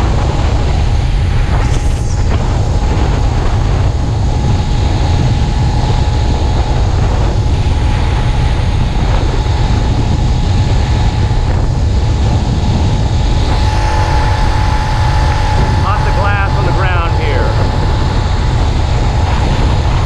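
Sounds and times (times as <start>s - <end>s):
small engine running: 0.0s - 20.0s
wind rumble on microphone: 0.0s - 20.0s.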